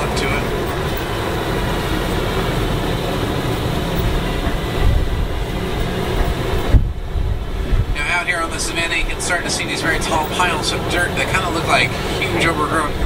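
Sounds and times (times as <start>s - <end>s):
truck engine rumble: 0.0s - 13.0s.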